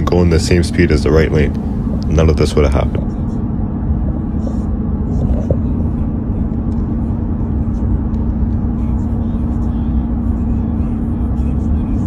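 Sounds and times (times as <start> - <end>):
car interior road and engine drone: 0.0 - 12.0.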